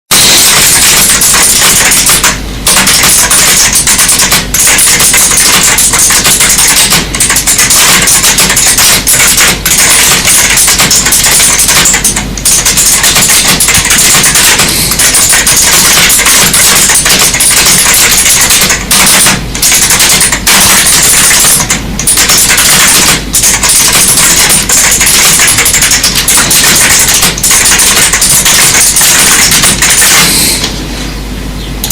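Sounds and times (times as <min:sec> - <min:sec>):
fast keyboard typing: 0:00.1 - 0:30.7.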